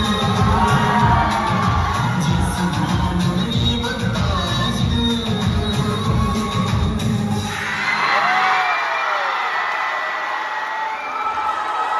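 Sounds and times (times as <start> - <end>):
audience cheering and whooping: 0.0 - 3.5, 5.1 - 11.9.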